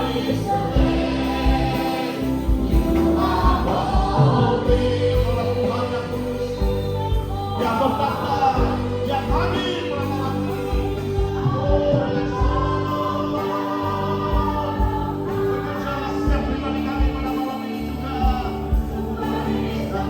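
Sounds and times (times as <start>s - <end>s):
instrumental accompaniment with beat: 0.0s - 19.9s
voices singing worship song: 0.0s - 20.0s.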